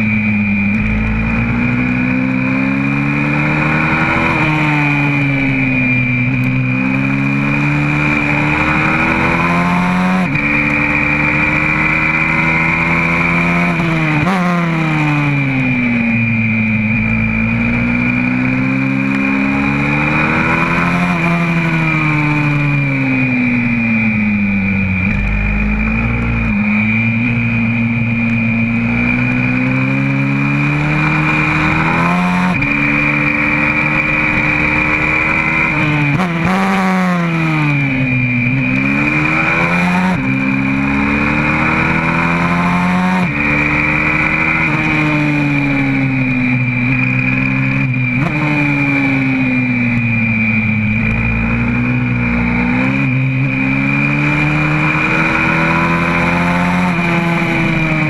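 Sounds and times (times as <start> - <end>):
motorbike engine revving: 0.0 - 58.0
steady high whine: 0.0 - 58.0.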